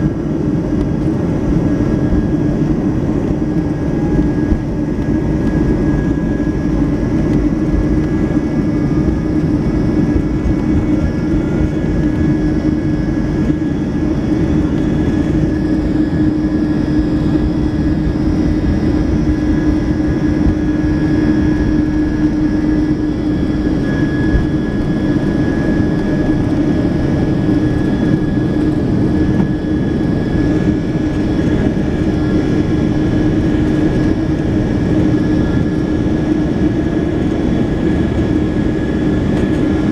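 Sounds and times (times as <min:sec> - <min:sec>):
jet engine noise in cabin: 0:00.0 - 0:39.9.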